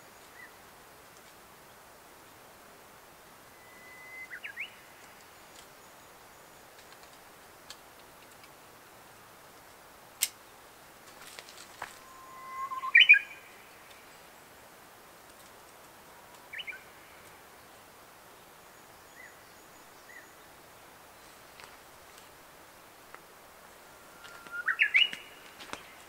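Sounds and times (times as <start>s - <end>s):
songbird singing: 0.0s - 8.9s, 10.4s - 26.0s.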